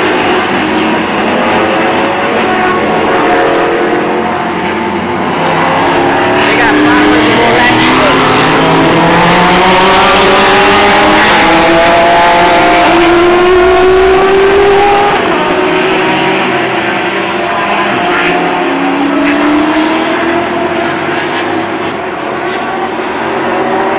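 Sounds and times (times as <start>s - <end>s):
race car engines accelerating: 0.0s - 23.9s.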